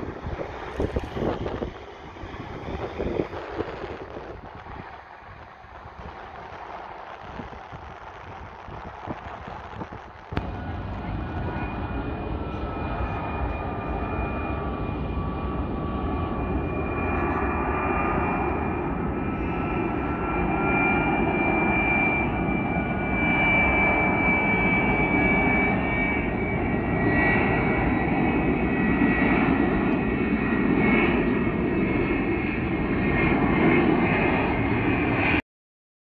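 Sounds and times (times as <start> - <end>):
jet aircraft engines whining: 0.0 - 35.4.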